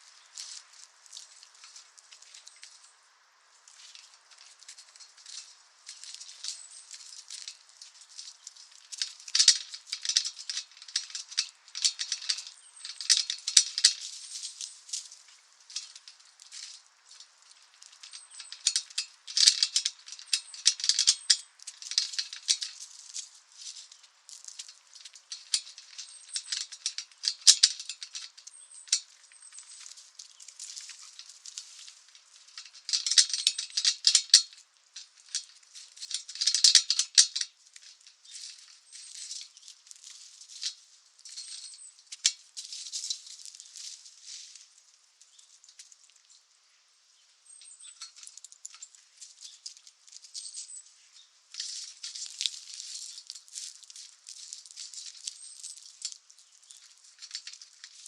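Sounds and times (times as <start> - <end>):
dry crackling and clicking: 0.0 - 3.0, 3.6 - 46.4, 47.5 - 58.0.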